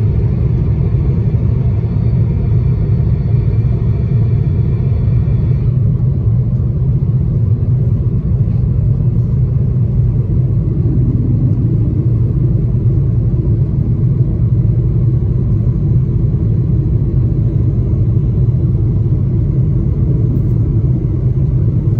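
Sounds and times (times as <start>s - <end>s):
faint high whine: 0.0s - 21.9s
jet engine cabin rumble: 0.0s - 21.9s.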